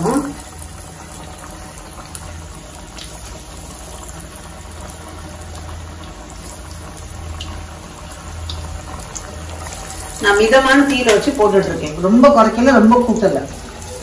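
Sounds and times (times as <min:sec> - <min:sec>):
oil sizzling and bubbling: 0:00.0 - 0:14.0.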